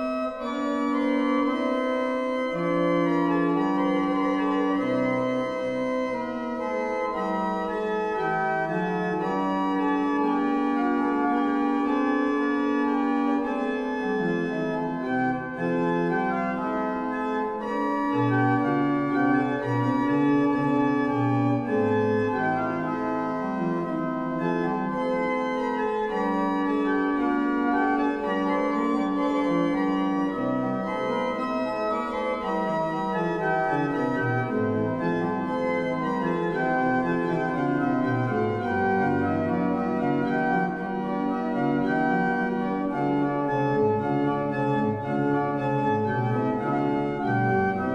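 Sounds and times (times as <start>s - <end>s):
pipe organ playing: 0.0s - 47.9s.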